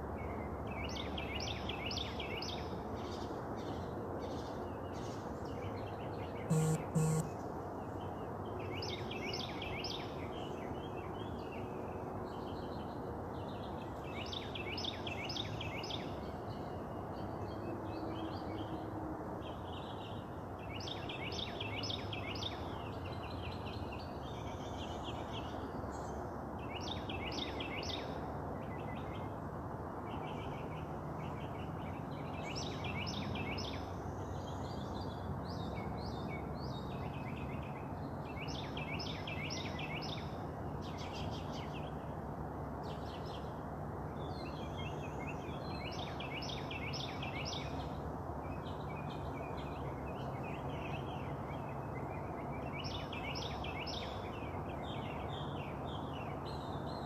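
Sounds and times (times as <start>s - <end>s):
songbirds singing: 0.1s - 29.4s, 30.0s - 57.0s.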